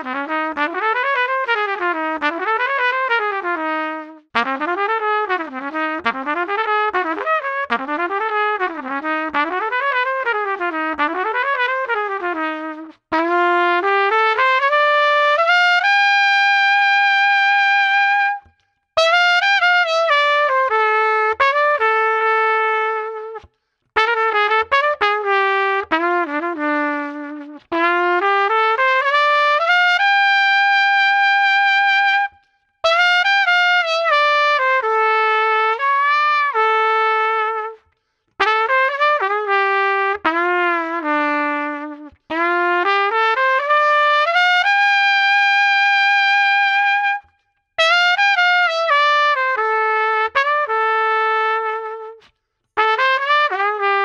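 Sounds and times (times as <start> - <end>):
trumpet playing melodic phrases: 0.0 - 54.0.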